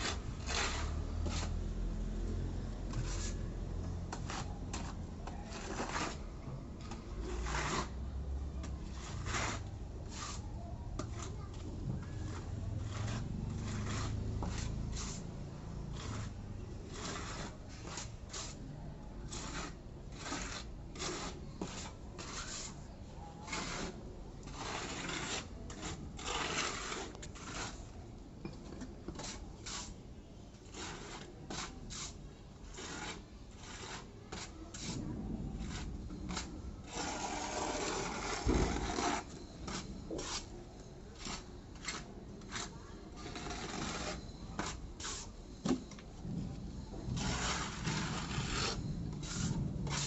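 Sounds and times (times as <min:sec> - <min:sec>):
hand tool scraping wall: 0:00.0 - 0:28.0, 0:29.1 - 0:30.0, 0:30.6 - 0:50.0.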